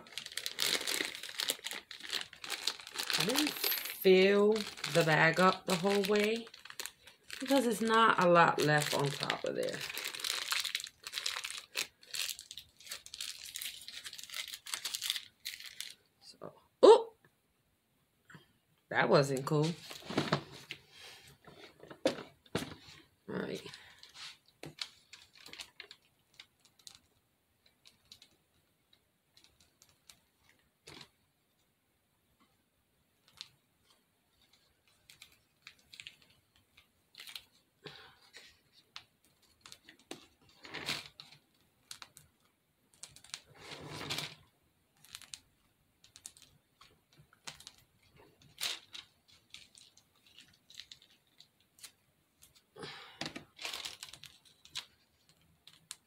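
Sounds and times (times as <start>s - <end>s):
plastic piping bag rustling: 0.0s - 16.0s, 19.6s - 31.2s, 33.2s - 56.0s.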